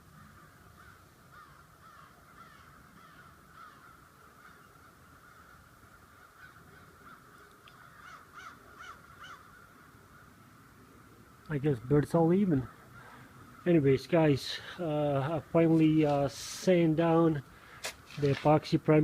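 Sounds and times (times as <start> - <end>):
flock of birds calling: 0.0 - 10.8, 11.4 - 18.4.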